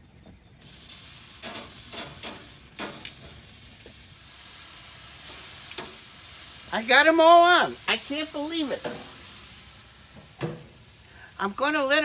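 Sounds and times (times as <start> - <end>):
fish sizzling on grill: 0.6 - 12.0.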